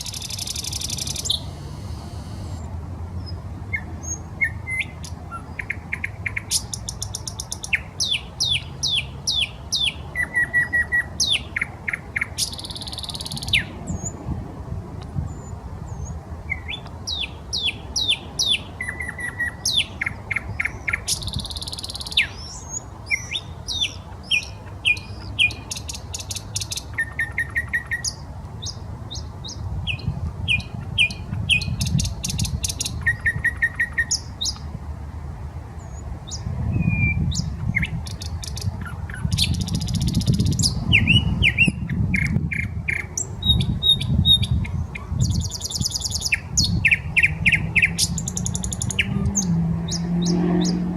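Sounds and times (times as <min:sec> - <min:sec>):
nightingale singing: 0:00.0 - 0:02.7, 0:03.7 - 0:14.2, 0:15.3 - 0:34.6, 0:35.8 - 0:50.4.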